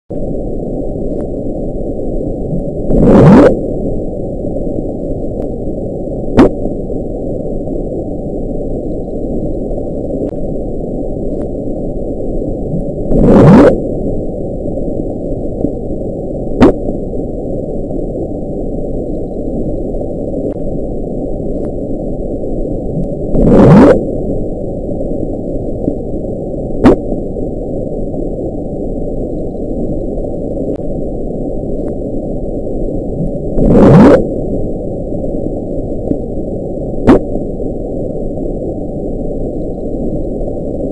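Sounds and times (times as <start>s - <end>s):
low underwater rumble: 0.1s - 40.9s.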